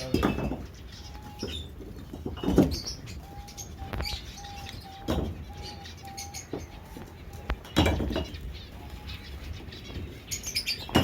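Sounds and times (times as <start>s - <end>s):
birds chirping: 0.0s - 11.0s
low coo-like bird calls: 0.0s - 11.0s.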